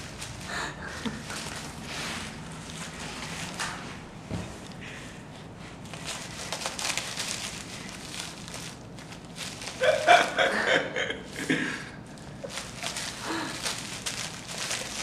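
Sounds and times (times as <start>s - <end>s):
packet rustling and crackling: 0.0s - 3.8s, 5.8s - 15.0s.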